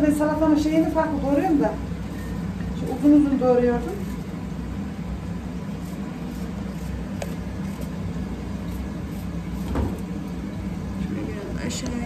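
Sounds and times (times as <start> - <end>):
range hood humming: 0.0 - 12.0.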